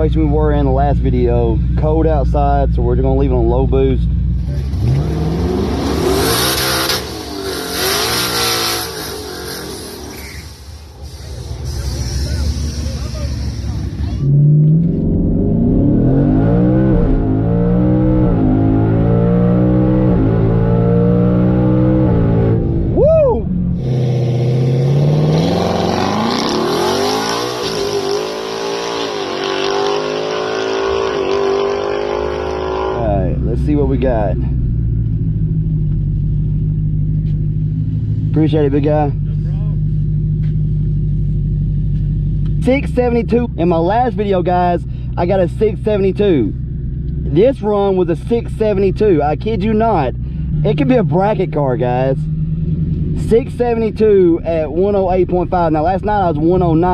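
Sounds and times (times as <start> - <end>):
car engine accelerating hard: 0.0 - 56.9.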